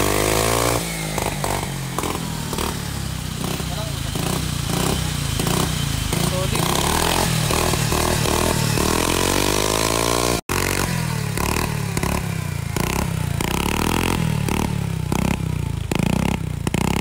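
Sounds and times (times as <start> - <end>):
scooter engine revving: 0.0 - 17.0.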